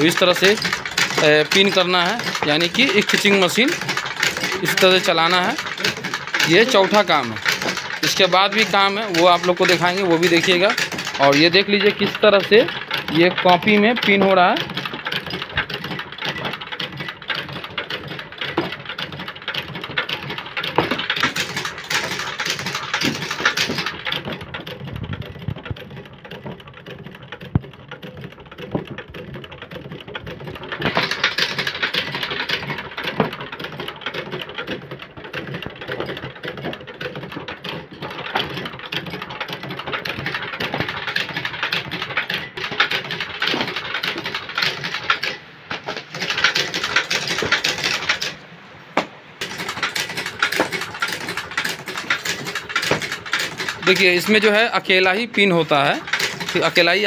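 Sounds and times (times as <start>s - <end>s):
stitching machine clicking: 0.0s - 48.5s, 49.4s - 57.0s.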